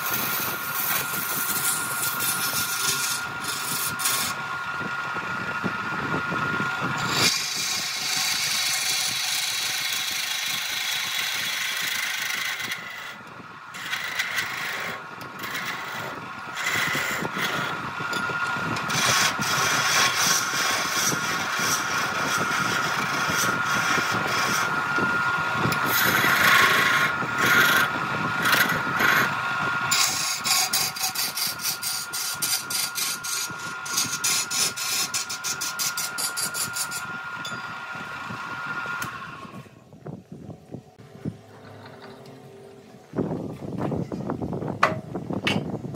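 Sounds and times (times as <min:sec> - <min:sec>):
turning tool cutting wood: 0:00.0 - 0:39.8
wood lathe motor whine: 0:00.0 - 0:43.7.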